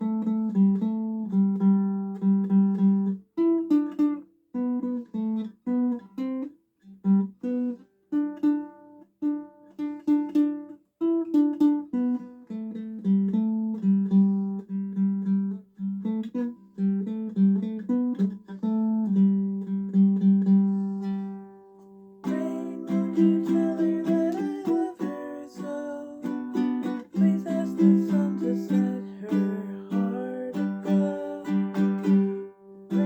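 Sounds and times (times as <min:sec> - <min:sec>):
solo ukulele melody: 0:00.0 - 0:33.0.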